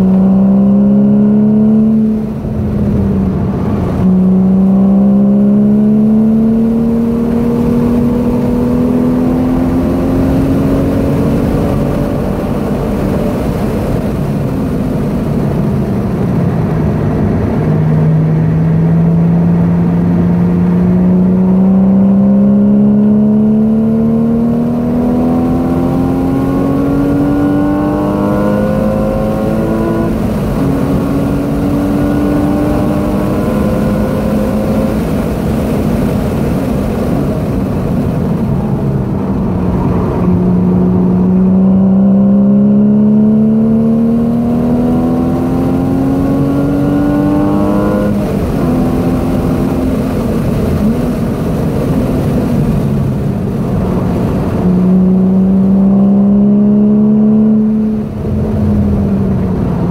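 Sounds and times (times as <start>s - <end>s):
car engine accelerating and shifting: 0.0s - 59.9s.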